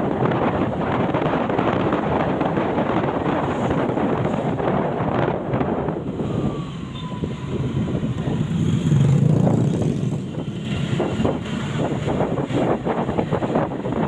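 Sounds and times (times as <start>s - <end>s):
road traffic: 0.0s - 14.0s
wind rumbling on microphone: 0.0s - 14.0s.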